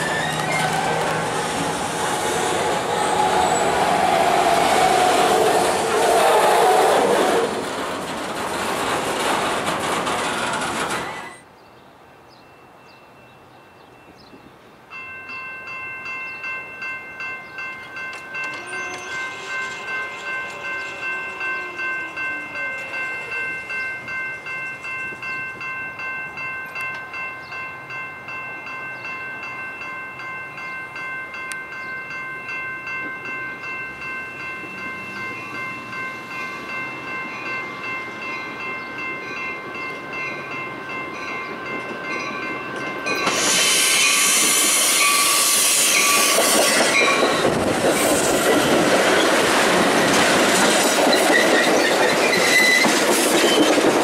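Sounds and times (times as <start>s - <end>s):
railroad crossing bell ringing: 0.0s - 6.0s, 12.4s - 53.7s
freight train rumbling past: 0.0s - 11.5s, 14.9s - 54.0s
distant approaching train: 0.0s - 54.0s.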